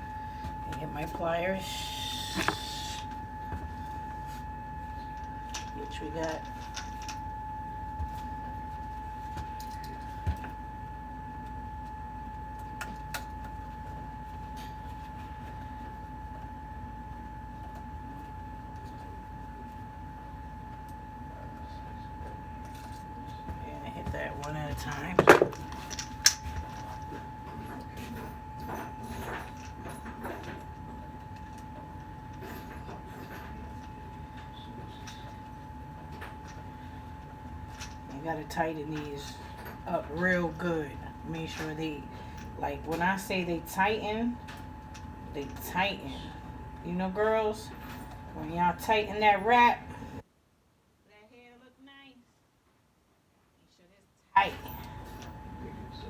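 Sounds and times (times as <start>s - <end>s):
steady high-pitched tone: 0.0s - 50.0s
low hum: 0.0s - 50.2s.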